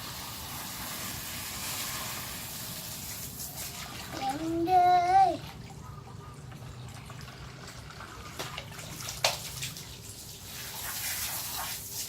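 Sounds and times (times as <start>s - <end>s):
water running and splashing: 0.0s - 5.8s, 6.6s - 12.0s.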